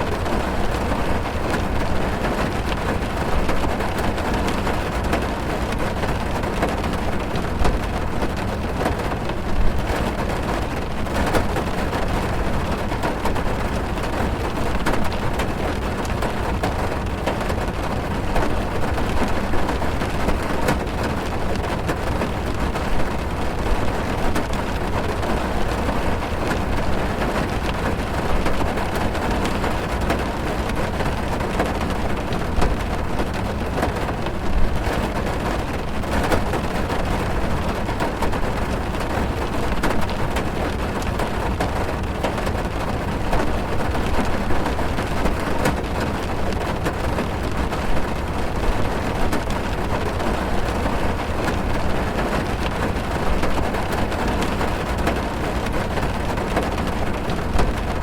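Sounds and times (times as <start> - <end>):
rain on car roof: 0.0 - 58.0.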